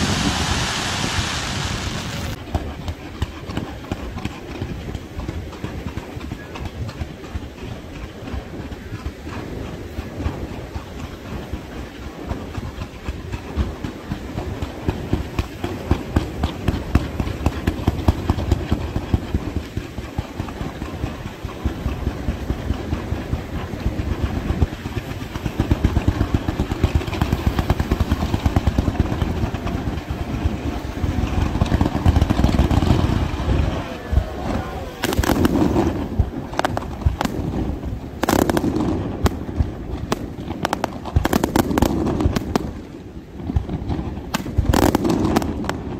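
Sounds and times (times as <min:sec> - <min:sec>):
firework cracks and crackle: 0:00.0 - 0:45.9
firework shells booming: 0:00.0 - 0:45.9.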